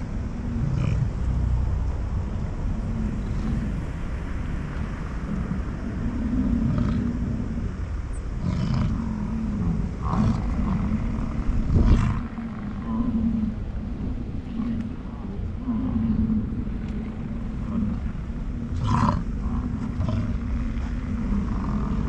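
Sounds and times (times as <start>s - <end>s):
bison bellowing: 0.0s - 22.0s.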